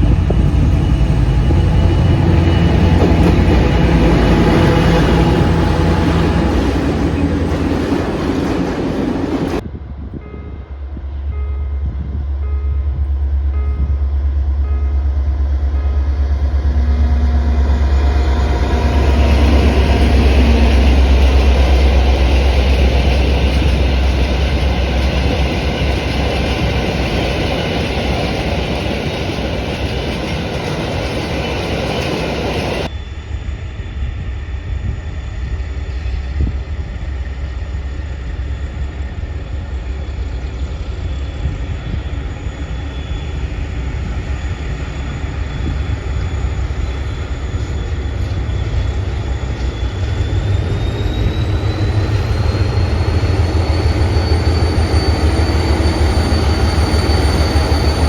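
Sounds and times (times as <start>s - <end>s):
train wheels rushing: 0.0s - 9.7s, 13.8s - 32.9s, 33.7s - 58.0s
train passing rumble: 0.0s - 58.0s.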